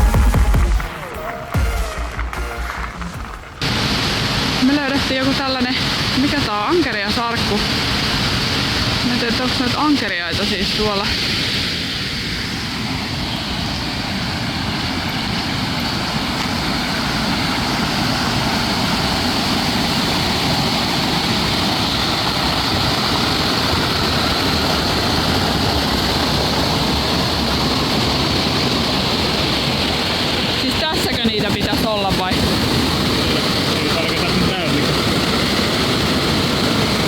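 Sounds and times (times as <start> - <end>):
fast-flowing water rushing: 0.0 - 37.0.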